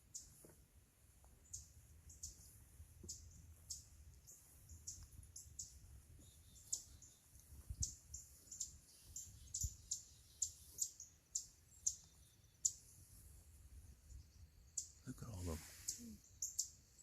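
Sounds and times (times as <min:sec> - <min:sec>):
songbird chip notes: 0:01.4 - 0:13.1, 0:13.9 - 0:17.0.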